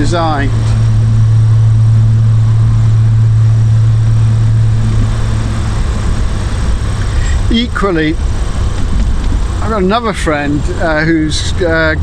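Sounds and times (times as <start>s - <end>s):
car engine droning: 0.0s - 12.0s
road rumble: 0.0s - 12.0s.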